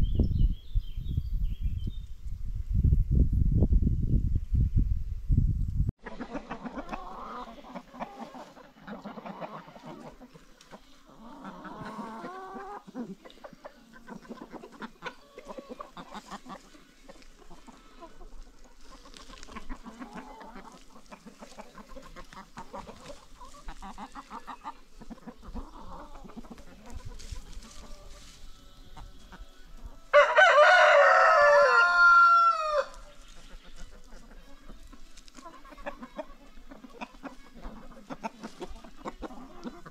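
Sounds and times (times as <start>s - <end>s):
chickens clucking: 6.0s - 39.9s.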